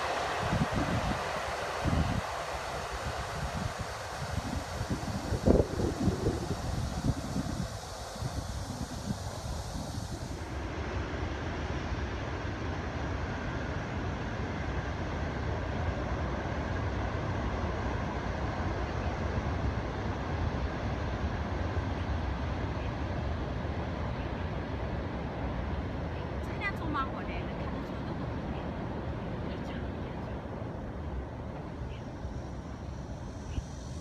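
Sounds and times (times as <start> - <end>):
approaching train rumble: 0.0 - 34.0.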